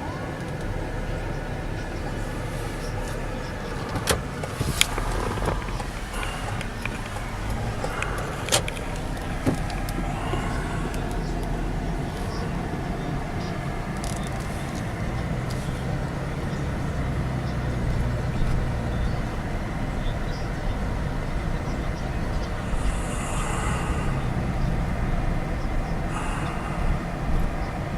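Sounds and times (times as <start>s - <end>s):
car road and engine noise: 0.0s - 27.9s.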